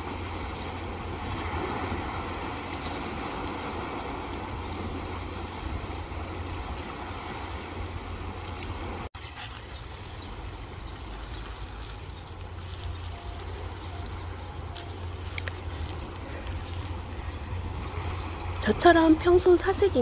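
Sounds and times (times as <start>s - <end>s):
sea waves lapping on rocks: 0.0s - 20.0s
wind rumbling on microphone: 0.0s - 20.0s.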